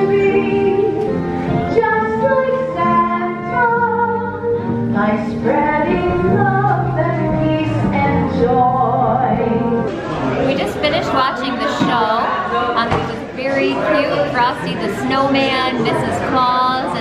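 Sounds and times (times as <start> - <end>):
woman singing: 0.0 - 9.9, 10.5 - 17.0.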